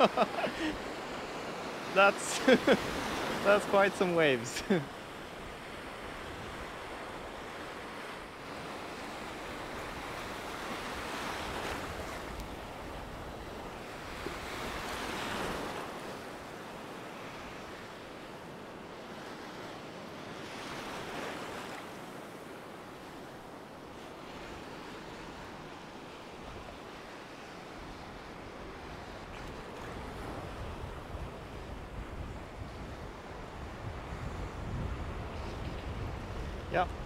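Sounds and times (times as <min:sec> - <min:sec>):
waves breaking in shallow water: 0:00.0 - 0:37.0.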